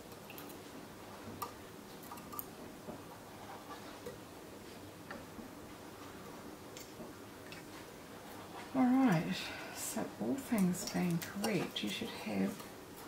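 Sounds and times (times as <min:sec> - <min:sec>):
light steady hum: 0:00.0 - 0:13.0.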